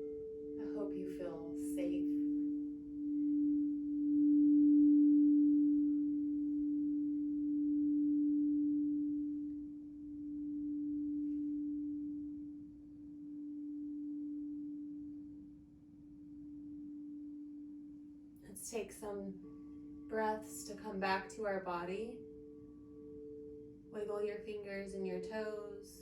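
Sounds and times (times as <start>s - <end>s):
singing bowl ringing: 0.0s - 26.0s.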